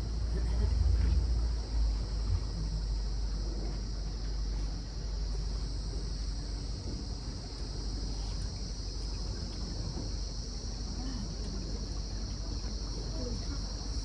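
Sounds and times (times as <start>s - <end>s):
boat motor humming: 0.0s - 14.0s
insects droning: 0.0s - 14.0s.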